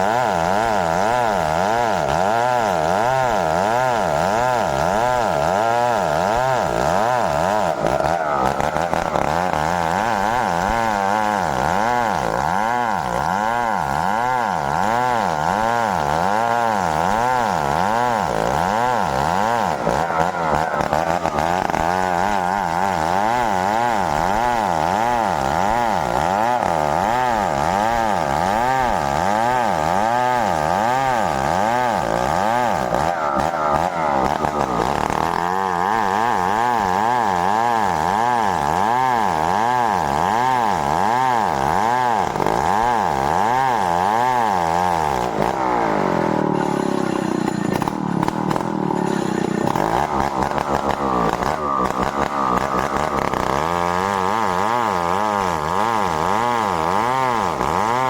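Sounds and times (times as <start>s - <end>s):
chainsaw cutting timber: 0.0s - 58.0s.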